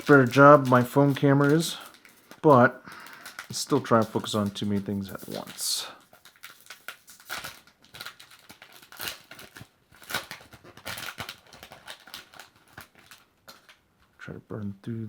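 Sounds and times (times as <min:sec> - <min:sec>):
cards rustling and clicking: 0:00.0 - 0:13.8
foil wrapper crinkling and tearing: 0:00.0 - 0:13.8.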